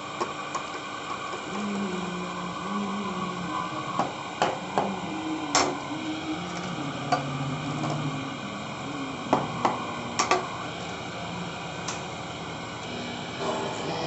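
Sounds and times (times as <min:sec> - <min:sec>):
wood lathe hum: 0:00.9 - 0:14.0.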